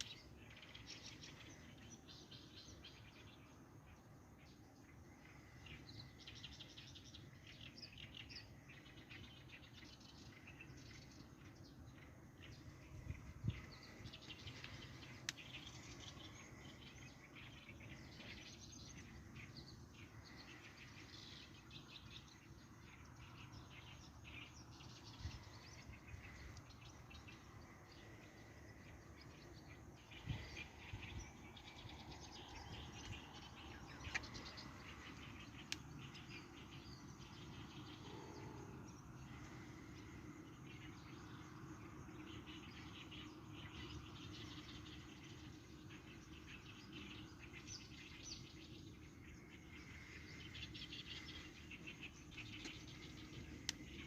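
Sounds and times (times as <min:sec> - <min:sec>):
birds chirping: 0:00.0 - 0:54.0
insects chirping: 0:00.0 - 0:54.0.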